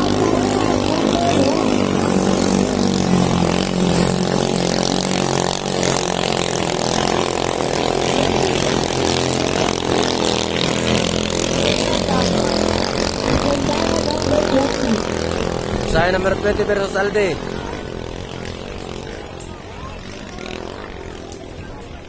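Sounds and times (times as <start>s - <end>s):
boat engines running hard: 0.0s - 22.0s.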